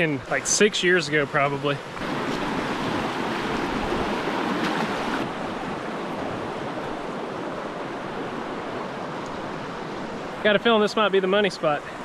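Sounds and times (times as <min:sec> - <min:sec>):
creek water over rocks: 0:00.0 - 0:12.0.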